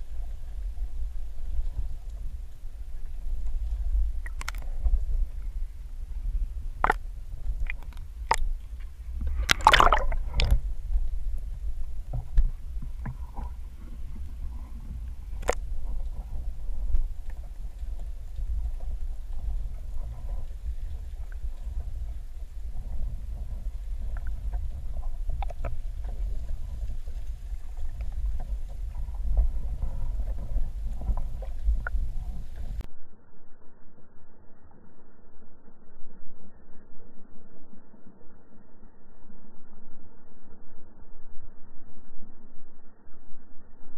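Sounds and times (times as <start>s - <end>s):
underwater low rumble: 0.0s - 43.9s.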